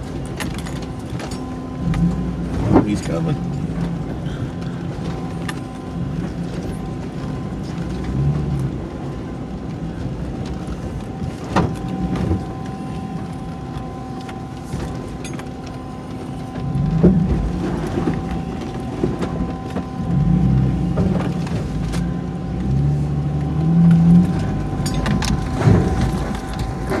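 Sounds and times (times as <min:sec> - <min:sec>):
car engine running: 0:00.0 - 0:27.0
thin steady whine: 0:00.0 - 0:27.0.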